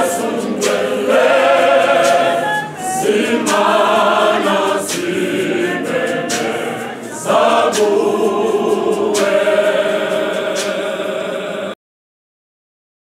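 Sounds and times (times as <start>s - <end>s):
church choir singing: 0.0s - 11.8s.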